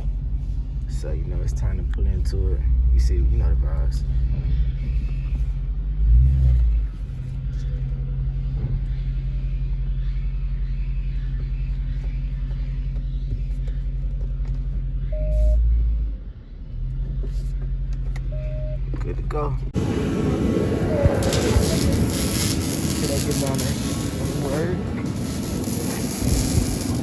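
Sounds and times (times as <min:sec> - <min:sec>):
car engine low rumble: 0:00.0 - 0:27.0.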